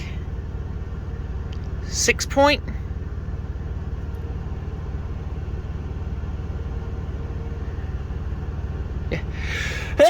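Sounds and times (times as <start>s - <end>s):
low pulsing rumble: 0.0s - 10.0s.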